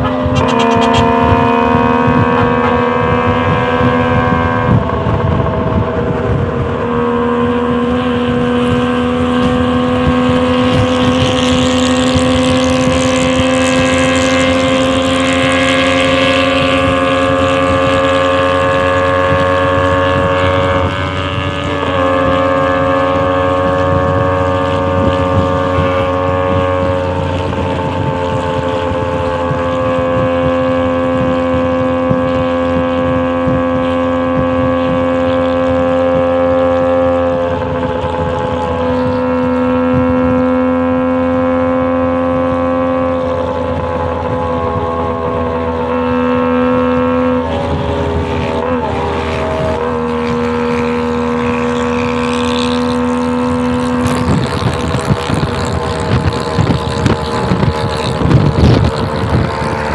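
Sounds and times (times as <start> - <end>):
wind rushing: 0.0 - 40.6, 43.2 - 59.9
pickup engine at high revs: 0.0 - 59.9.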